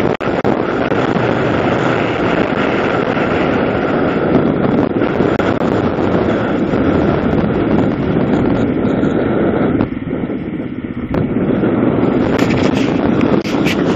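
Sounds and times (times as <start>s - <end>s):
vehicle engine and road noise: 0.0s - 13.9s
wind rushing over microphone: 0.0s - 13.9s.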